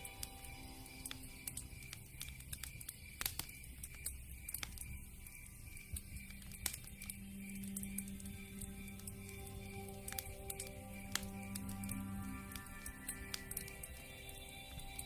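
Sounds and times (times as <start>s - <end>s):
soft background music: 0.0s - 15.0s
wood fire crackling: 0.0s - 15.0s.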